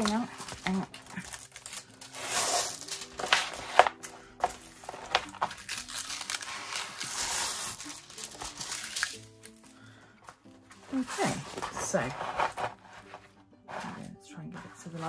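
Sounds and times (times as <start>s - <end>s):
plastic film crinkling: 0.0s - 13.9s.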